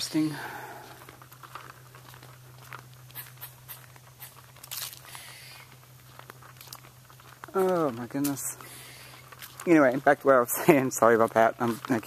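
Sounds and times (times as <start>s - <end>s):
footsteps on paved road: 0.0s - 12.0s
steady low hum: 0.0s - 12.0s.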